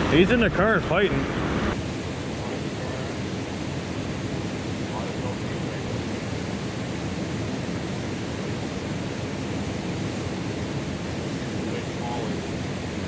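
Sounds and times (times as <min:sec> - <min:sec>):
river rapids rushing over rocks: 0:01.8 - 0:13.0.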